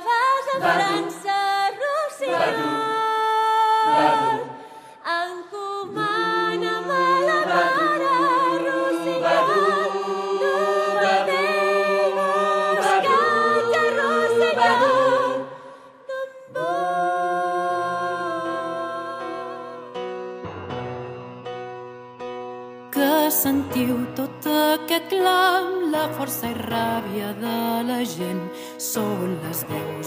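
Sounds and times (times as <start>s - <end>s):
a cappella voices singing: 0.0s - 20.1s, 23.0s - 30.0s.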